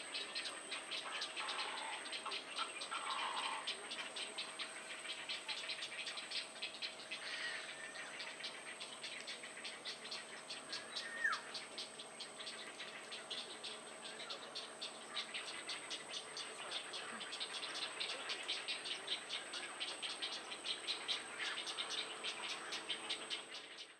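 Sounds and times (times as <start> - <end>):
chorus of rapid pulsing calls: 0.0 - 23.9.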